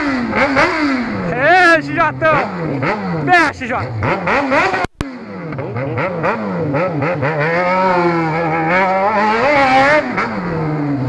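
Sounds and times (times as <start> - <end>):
motorcycle engine with loud exhaust: 0.0 - 11.0.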